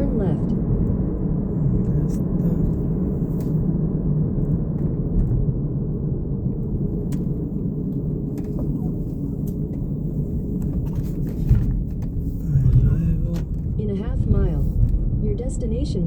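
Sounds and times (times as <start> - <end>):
car cabin road and engine rumble: 0.0 - 16.0.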